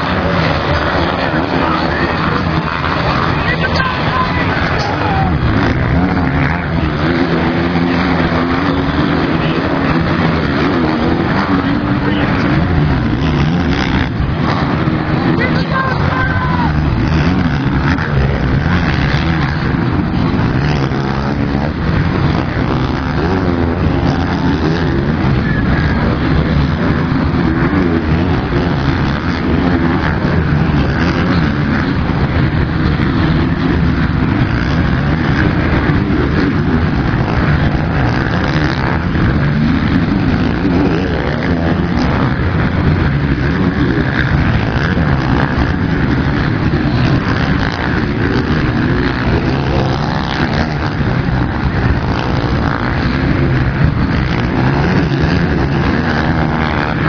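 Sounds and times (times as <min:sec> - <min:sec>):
motocross engines revving: 0:00.0 - 0:57.0.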